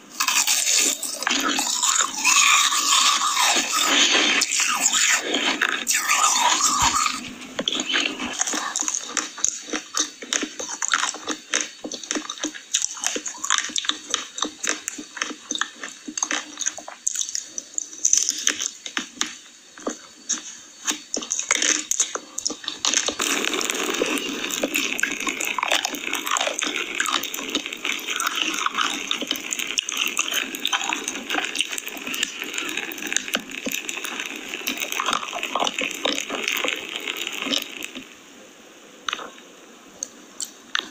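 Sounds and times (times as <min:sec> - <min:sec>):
wet mouth clicks and chewing: 0:00.0 - 0:38.2, 0:39.1 - 0:39.4, 0:40.0 - 0:40.9.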